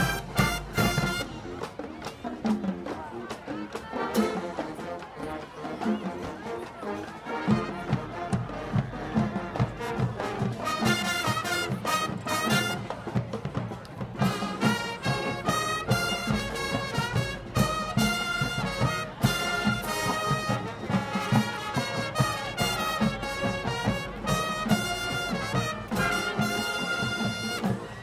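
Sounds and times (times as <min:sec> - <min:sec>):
trumpets and trombones: 0:00.0 - 0:13.3, 0:14.2 - 0:28.0
drums: 0:00.0 - 0:28.0
marching band playing: 0:00.0 - 0:28.0.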